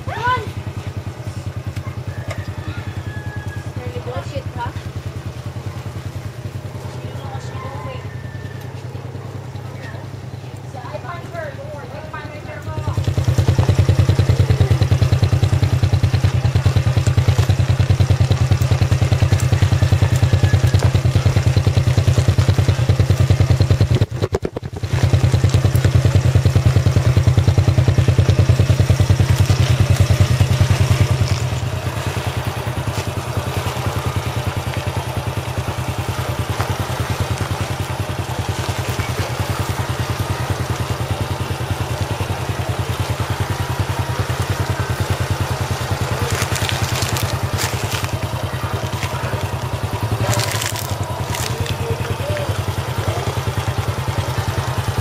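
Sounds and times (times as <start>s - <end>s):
small motorcycle engine running: 0.0s - 55.0s.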